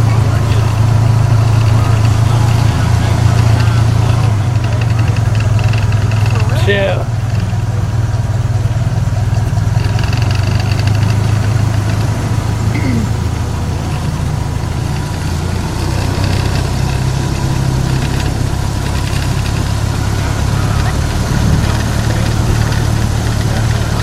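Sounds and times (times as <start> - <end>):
train engine humming: 0.0 - 24.0.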